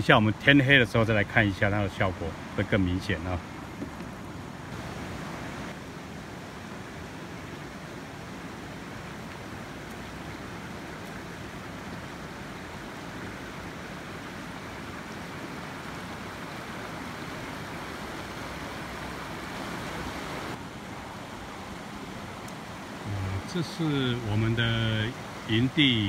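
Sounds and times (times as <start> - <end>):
creek rushing: 0.0 - 26.0.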